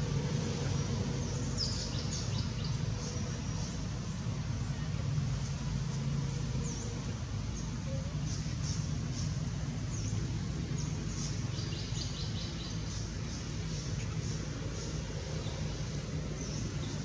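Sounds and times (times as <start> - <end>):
low outdoor rumble: 0.0 - 17.0
small birds chirping: 0.3 - 17.0.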